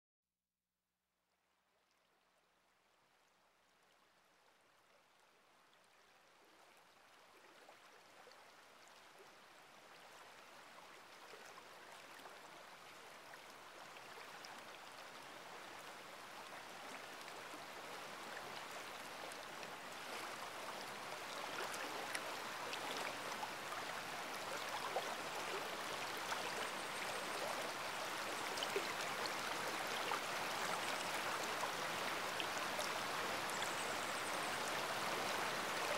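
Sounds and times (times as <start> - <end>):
rushing water: 6.8 - 35.9.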